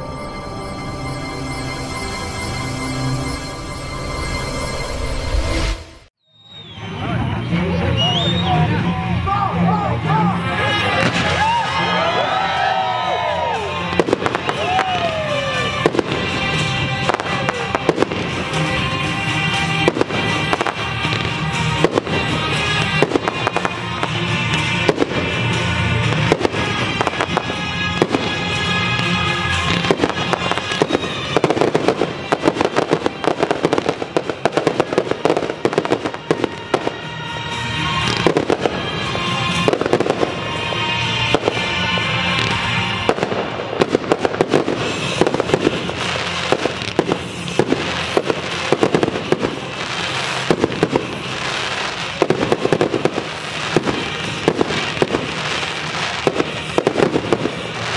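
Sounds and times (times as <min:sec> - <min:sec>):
music playing: 0:00.0 - 0:57.9.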